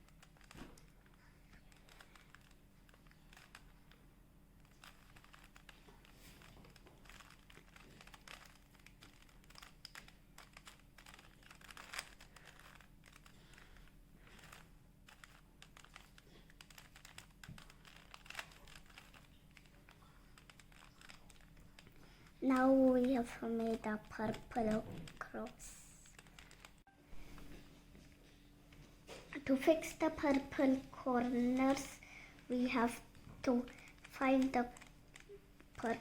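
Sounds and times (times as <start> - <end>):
puzzle cube plastic clicks: 0.0 - 4.0, 4.6 - 26.8, 29.4 - 36.0.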